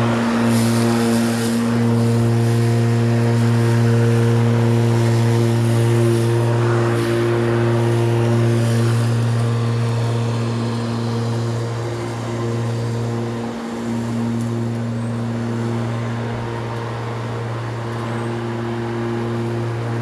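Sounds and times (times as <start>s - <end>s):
electric lawnmower humming: 0.0s - 20.0s.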